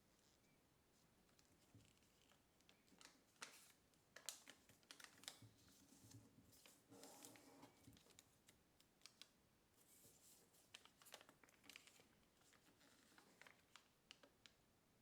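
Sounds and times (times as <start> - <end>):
paper rustle: 1.4 - 14.6
paper being folded: 1.5 - 14.6.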